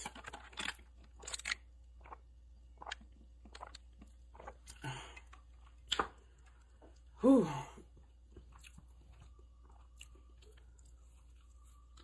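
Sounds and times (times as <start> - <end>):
chewing a biscuit: 0.0 - 7.2, 7.9 - 12.0.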